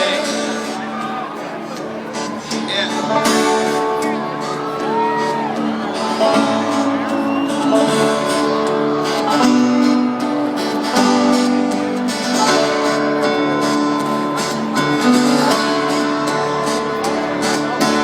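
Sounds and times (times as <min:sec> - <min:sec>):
strummed acoustic guitars: 0:00.0 - 0:18.0.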